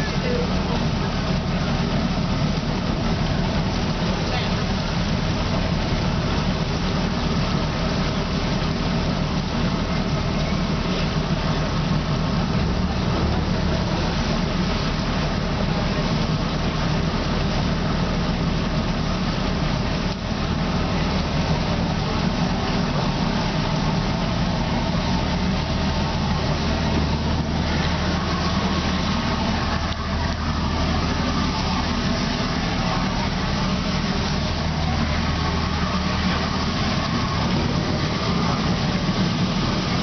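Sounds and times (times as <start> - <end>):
boat engine humming: 0.0 - 40.0.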